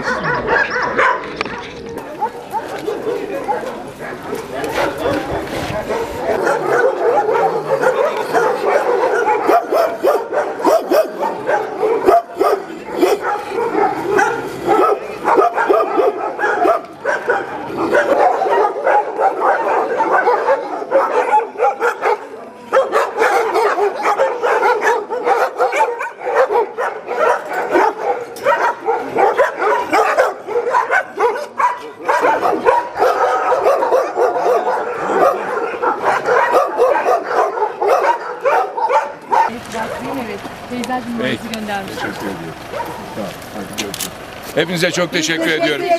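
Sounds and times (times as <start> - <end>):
dogs barking and yipping: 0.0 - 45.9.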